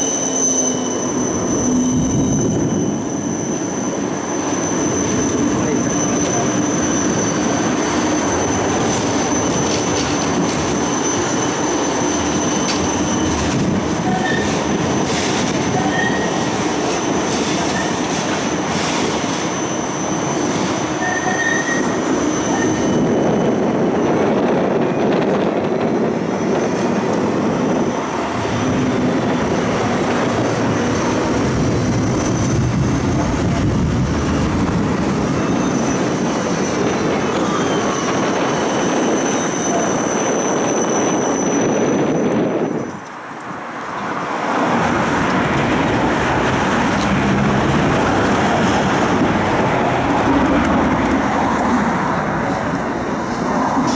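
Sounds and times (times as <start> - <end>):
tram wheels rumbling on rail: 0.0 - 53.9.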